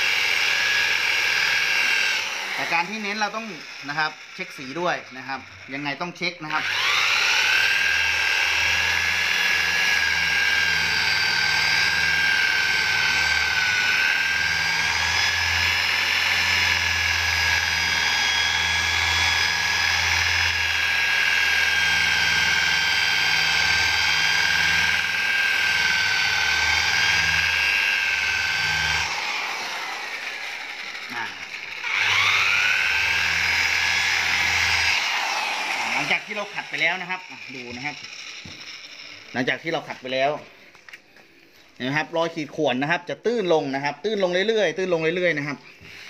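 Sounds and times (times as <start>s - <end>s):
rotary polisher whining: 0.0s - 40.8s, 44.1s - 46.0s.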